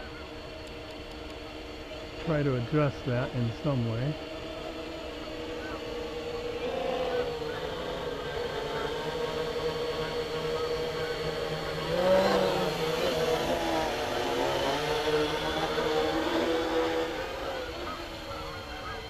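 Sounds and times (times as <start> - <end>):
quadcopter propellers buzzing: 0.0 - 19.0.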